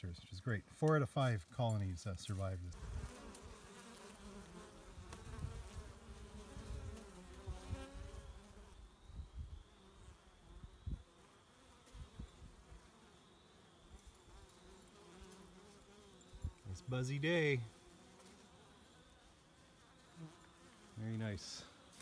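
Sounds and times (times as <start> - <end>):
bees buzzing: 2.8 - 22.0.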